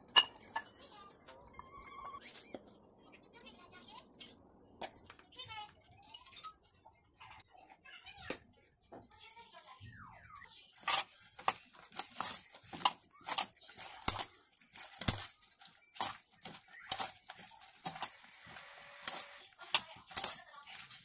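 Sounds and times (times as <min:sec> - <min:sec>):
bangles clinking against bowl: 0:00.0 - 0:05.4, 0:06.4 - 0:21.0.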